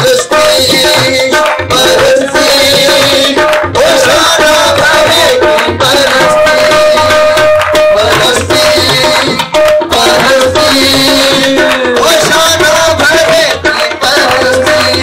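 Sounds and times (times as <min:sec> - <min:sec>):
hand drums beating: 0:00.0 - 0:15.0
person singing: 0:00.0 - 0:15.0.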